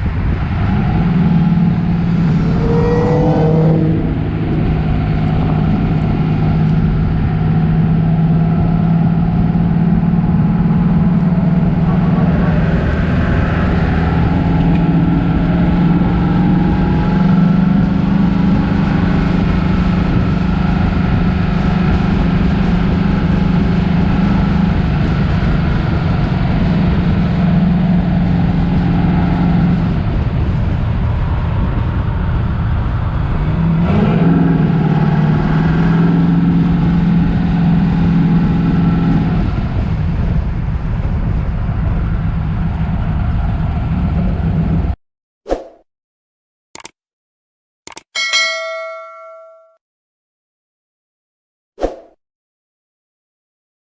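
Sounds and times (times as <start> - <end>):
car engine and exhaust droning: 0.0 - 44.9
road noise: 0.0 - 45.0.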